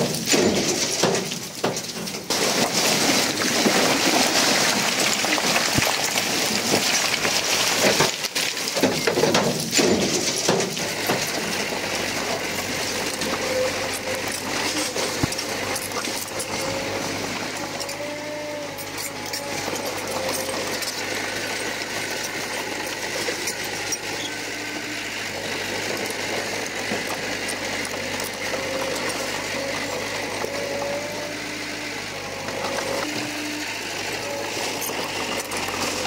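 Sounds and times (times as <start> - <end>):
bulldozer diesel engine running: 0.0 - 36.0
mechanical rattle and clatter: 0.0 - 36.0.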